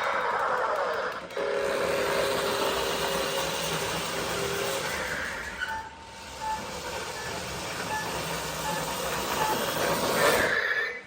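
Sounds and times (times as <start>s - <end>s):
toy car engine sound effect: 0.0s - 5.9s, 6.6s - 11.0s.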